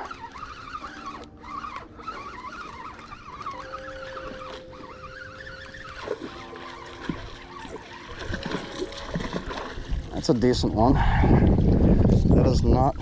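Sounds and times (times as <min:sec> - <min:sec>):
fishing reel whining: 0:00.0 - 0:11.9
steady low hum: 0:00.0 - 0:13.0.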